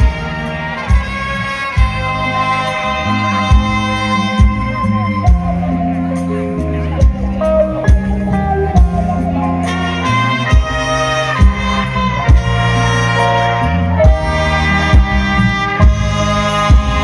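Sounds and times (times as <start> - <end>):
loud music over stage speakers: 0.0 - 17.0.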